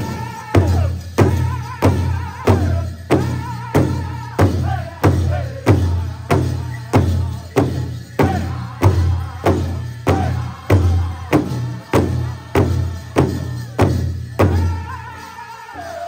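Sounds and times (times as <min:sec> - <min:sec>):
group singing: 0:00.0 - 0:16.0.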